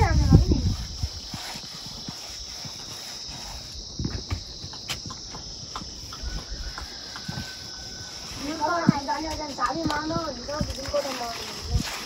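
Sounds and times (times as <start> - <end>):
crickets chirring: 0.0 - 12.0
wet clay smeared by hand: 0.0 - 12.0.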